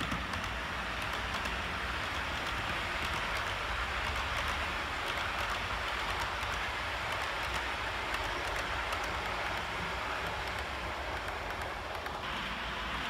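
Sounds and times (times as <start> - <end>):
model train wheels on rails: 0.0 - 13.0.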